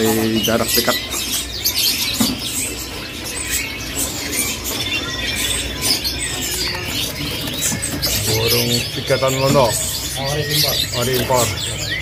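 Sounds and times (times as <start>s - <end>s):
songbirds chirping and twittering: 0.0s - 12.0s.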